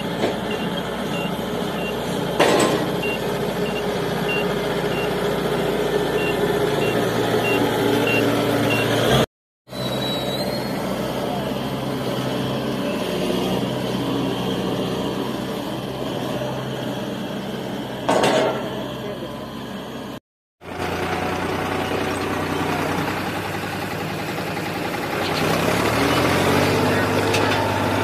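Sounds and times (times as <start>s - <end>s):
combine harvester engine: 0.0s - 28.0s
diesel tractor engine running: 0.0s - 28.0s.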